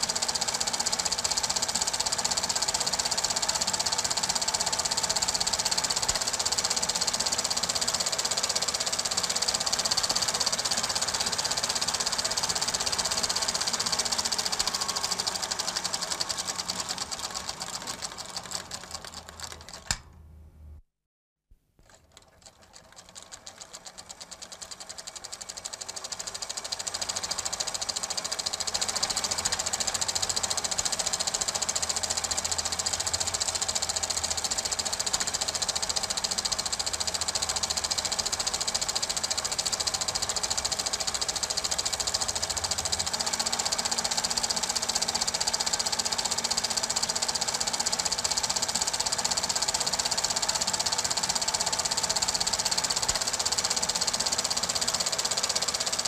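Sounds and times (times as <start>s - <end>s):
film projector clattering: 0.0s - 20.1s, 21.8s - 56.0s.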